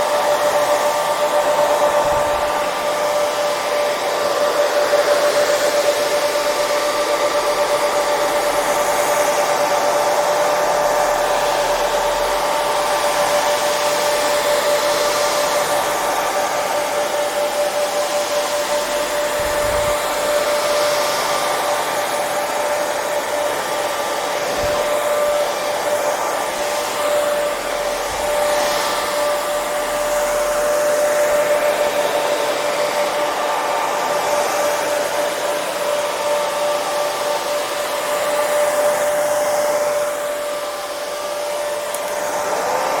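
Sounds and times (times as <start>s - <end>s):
hair dryer running: 0.0s - 43.0s.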